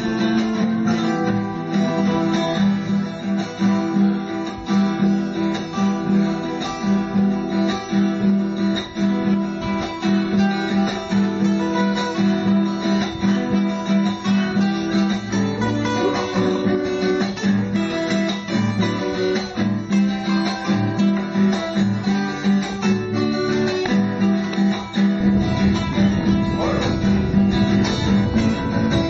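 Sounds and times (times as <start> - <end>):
guitar music with steady beat: 0.0 - 29.0.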